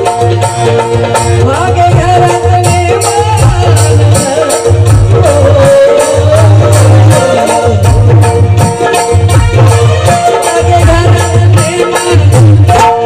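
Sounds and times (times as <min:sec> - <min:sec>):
steady drum beat: 0:00.0 - 0:13.0.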